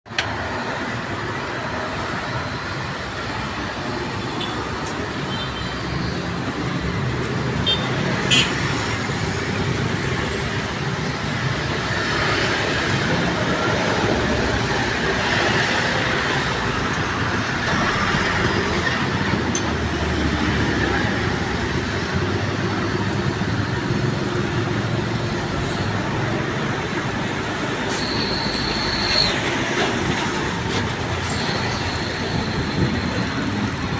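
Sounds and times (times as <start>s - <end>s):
road traffic noise: 0.1s - 33.9s
truck engines running: 0.1s - 33.9s.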